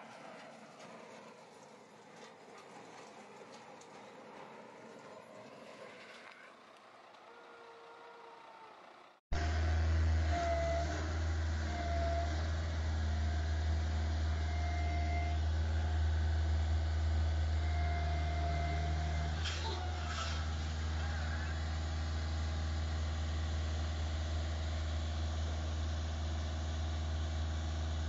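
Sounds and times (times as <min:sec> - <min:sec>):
engine whine: 0:00.0 - 0:28.0
heavy machinery engine humming: 0:00.0 - 0:28.0
quieter vehicle engine: 0:00.0 - 0:28.0.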